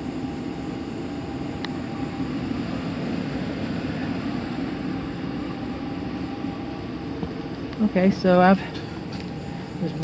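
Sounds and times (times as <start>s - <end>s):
air handler blower drone: 0.0s - 10.0s.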